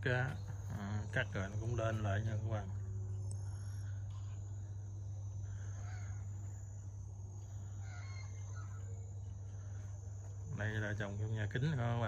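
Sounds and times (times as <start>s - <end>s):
faint bird calls: 0.0s - 12.0s
steady low hum: 0.0s - 12.0s.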